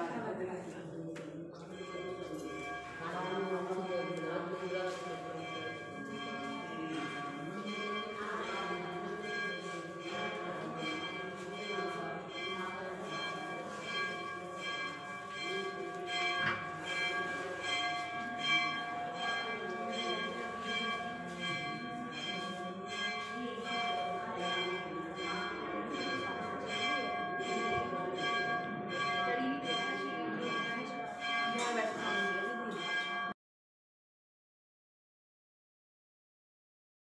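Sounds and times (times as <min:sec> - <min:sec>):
temple bells ringing: 0:01.3 - 0:33.4.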